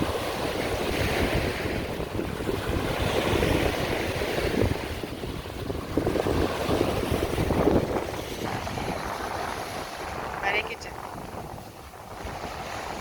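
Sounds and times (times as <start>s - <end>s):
waves washing onto sand: 0.0s - 13.0s
wind buffeting microphone: 0.0s - 13.0s.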